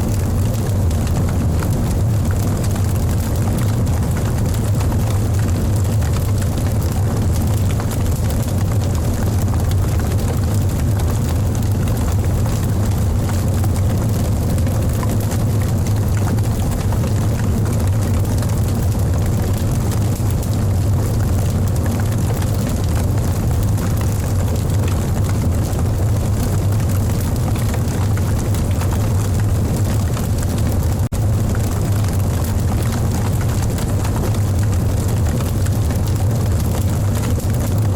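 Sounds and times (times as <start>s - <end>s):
faint fire crackles: 0.0s - 37.9s
fire roaring: 0.0s - 37.9s.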